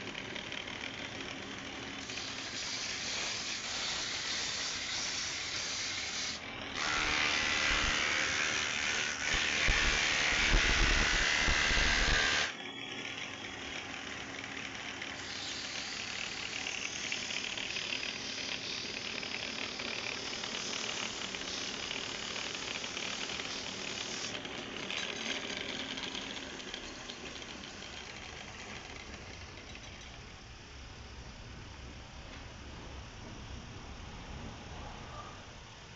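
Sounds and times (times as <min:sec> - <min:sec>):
wood lathe turning wood: 0:00.0 - 0:30.2
faint motor hum: 0:00.0 - 0:35.9.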